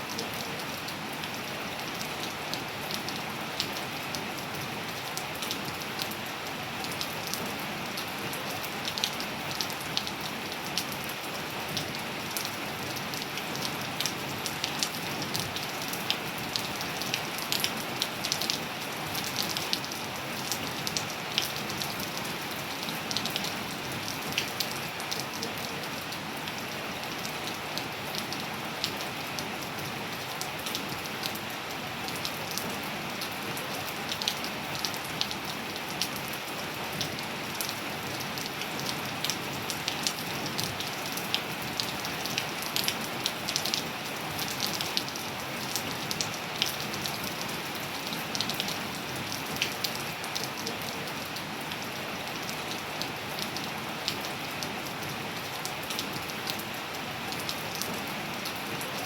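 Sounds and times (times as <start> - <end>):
rain hissing on a surface: 0.0 - 59.0.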